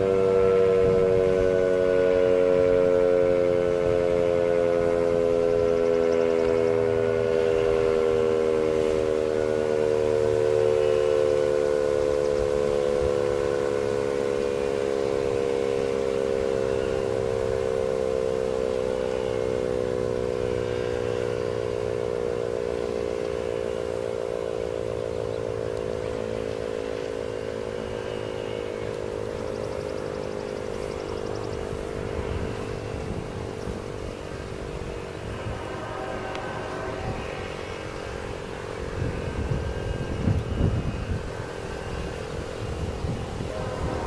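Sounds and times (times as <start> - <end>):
warning siren winding down: 0.0 - 44.0.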